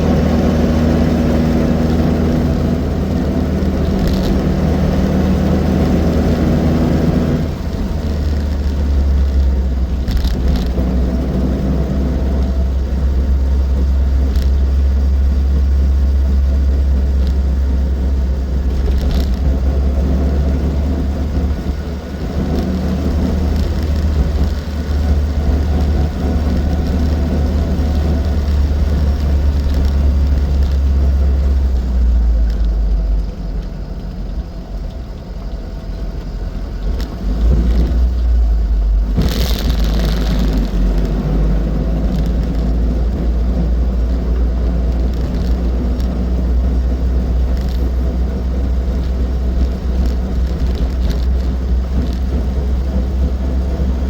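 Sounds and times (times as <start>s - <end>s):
road noise: 0.0s - 54.0s
small car engine rumbling: 0.0s - 54.0s.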